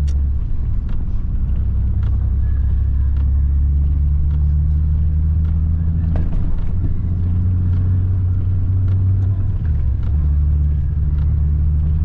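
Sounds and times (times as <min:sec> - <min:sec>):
car engine running: 0:00.0 - 0:12.0
tyre and road rumble: 0:00.0 - 0:12.0.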